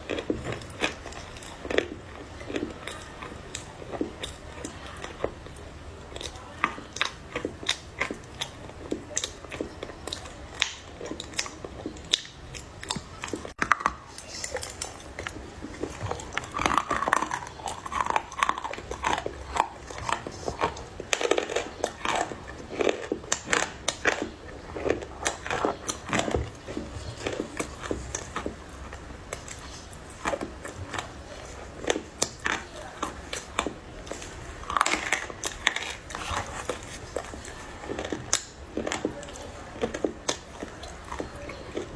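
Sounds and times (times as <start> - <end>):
crunchy chewing: 0.0 - 41.9.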